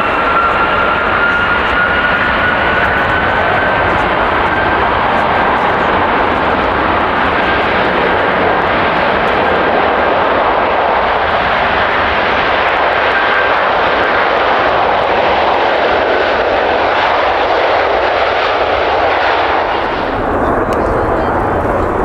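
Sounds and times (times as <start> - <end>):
airliner engines roaring: 0.0 - 22.0.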